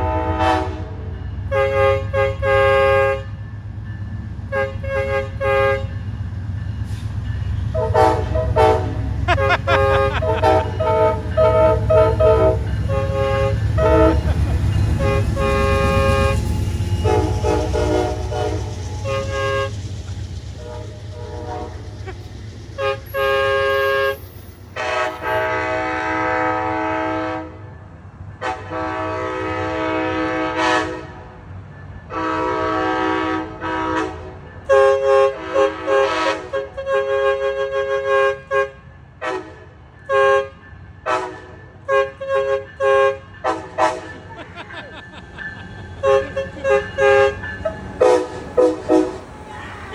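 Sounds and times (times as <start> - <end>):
train air horn toots and blasts: 0.0 - 3.4, 4.5 - 6.1, 6.9 - 27.8, 28.4 - 31.4, 32.1 - 44.8, 45.4 - 49.9
passing train rumble: 0.0 - 49.9.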